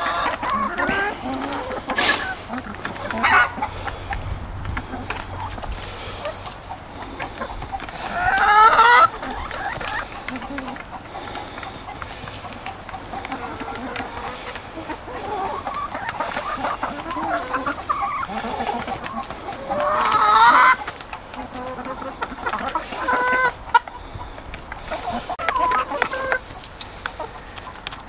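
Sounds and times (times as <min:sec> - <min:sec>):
hens clucking and calling: 0:00.0 - 0:28.0.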